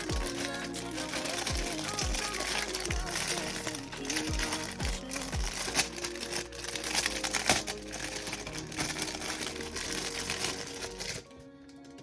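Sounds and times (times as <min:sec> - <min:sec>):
background pop music: 0:00.0 - 0:12.0
plastic packaging crinkling: 0:00.0 - 0:12.0.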